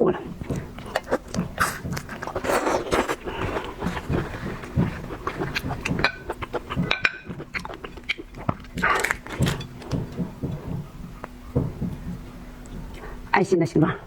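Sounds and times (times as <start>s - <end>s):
person chewing: 0.2s - 13.3s
mouth clicks and smacks: 0.3s - 13.2s.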